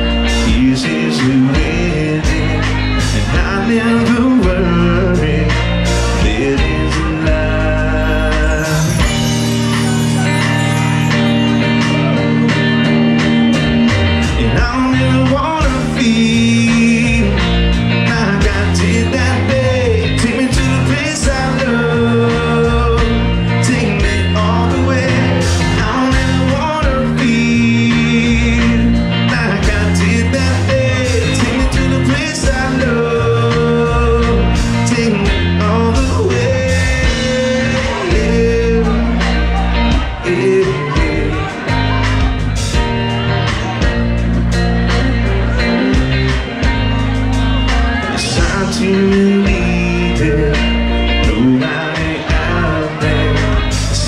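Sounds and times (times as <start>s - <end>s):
drums steady beat: 0.0s - 54.0s
electric guitars: 0.0s - 54.0s.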